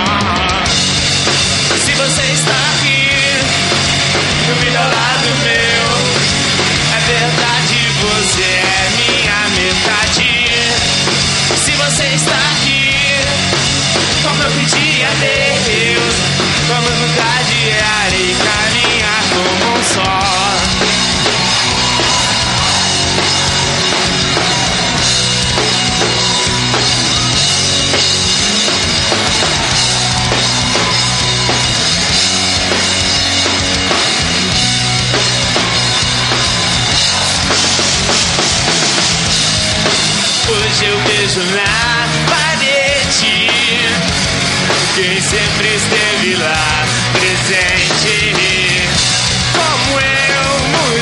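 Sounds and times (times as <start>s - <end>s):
heavy rock band playing: 0.0s - 51.0s.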